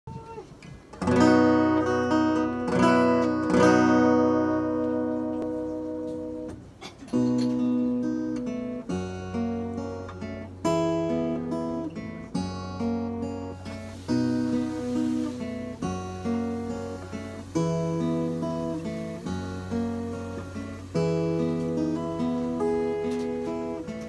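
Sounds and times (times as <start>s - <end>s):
acoustic guitar chords strummed: 0.9s - 24.0s.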